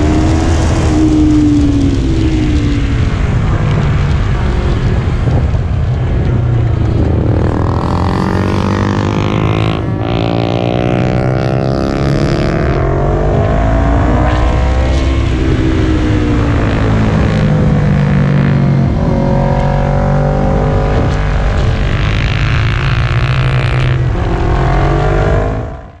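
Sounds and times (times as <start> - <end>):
motorcycle engine accelerating: 0.0 - 26.0
steady rushing noise: 0.0 - 26.0.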